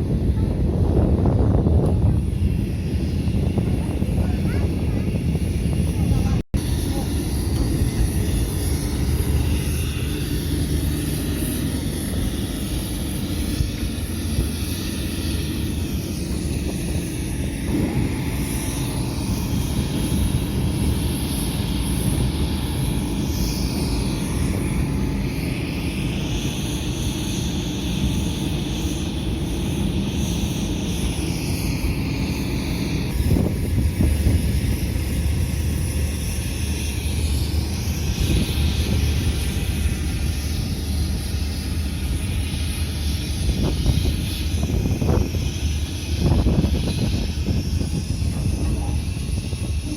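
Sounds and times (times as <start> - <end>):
faint rising and falling whines: 0.0 - 49.9
ship engines rumbling: 0.0 - 49.9.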